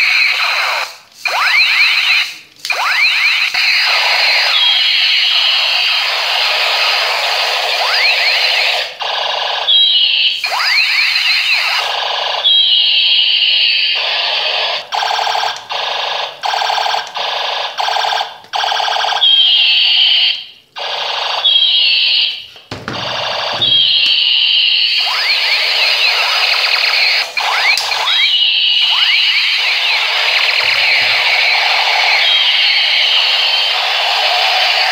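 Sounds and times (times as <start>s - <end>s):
toy gun siren-like sweeping tones: 0.0s - 22.5s, 23.1s - 34.9s.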